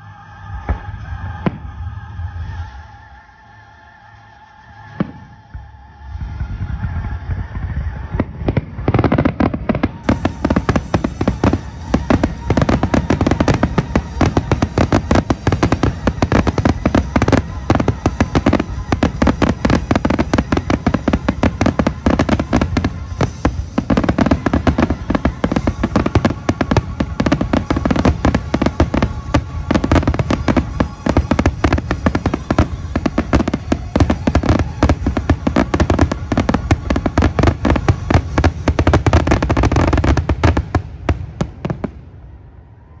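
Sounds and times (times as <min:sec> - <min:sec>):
fireworks bangs and crackles: 0:00.2 - 0:02.7, 0:04.9 - 0:42.4.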